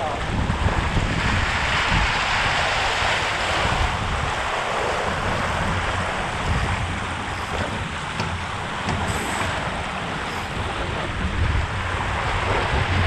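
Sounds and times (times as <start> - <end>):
water spraying along hull: 0.0 - 13.0
wind buffeting microphone: 0.0 - 13.0.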